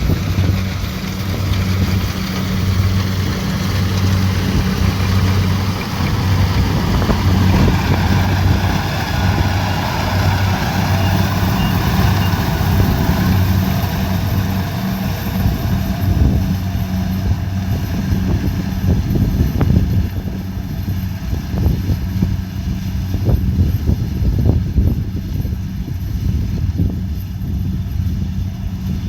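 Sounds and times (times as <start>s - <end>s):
combine harvester engine hum: 0.0s - 29.0s.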